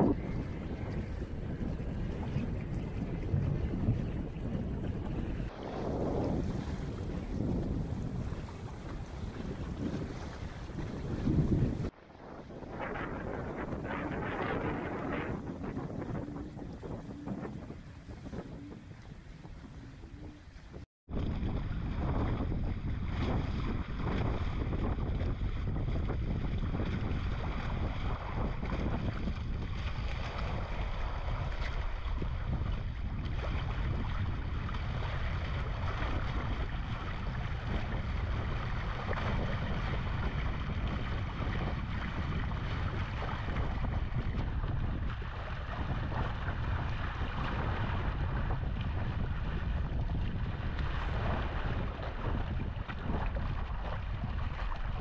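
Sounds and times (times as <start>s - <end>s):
water rushing past hulls: 0.0s - 55.0s
wind buffeting microphone: 0.0s - 55.0s.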